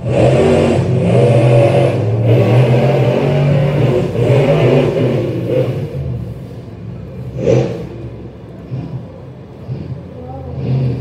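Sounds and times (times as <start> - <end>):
monster truck engines racing: 0.0 - 11.0.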